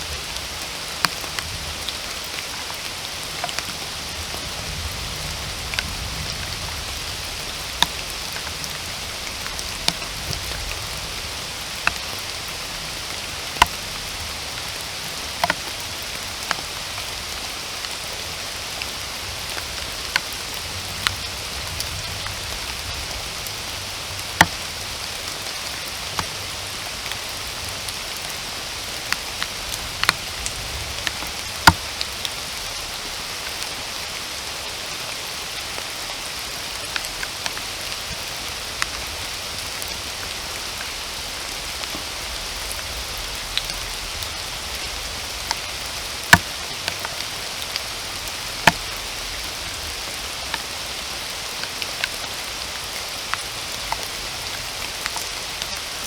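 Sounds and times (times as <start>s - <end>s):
heavy raindrops tapping: 0.0s - 34.7s, 35.3s - 56.0s
steady rain hiss: 0.0s - 56.0s.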